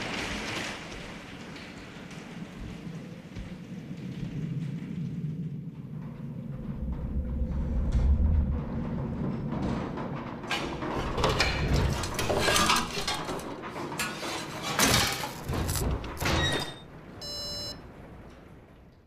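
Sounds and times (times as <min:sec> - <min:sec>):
mechanical knocks and clanks: 0:00.0 - 0:19.0.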